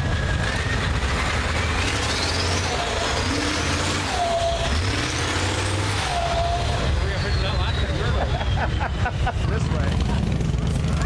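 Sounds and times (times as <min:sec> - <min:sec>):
high rising whistling tones: 0:00.0 - 0:09.1
vehicle engines rumbling: 0:00.0 - 0:11.0.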